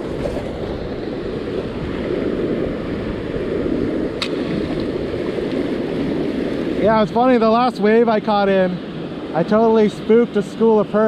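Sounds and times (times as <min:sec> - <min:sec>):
surf breaking on beach: 0:00.0 - 0:11.0
wind on microphone: 0:00.0 - 0:11.0.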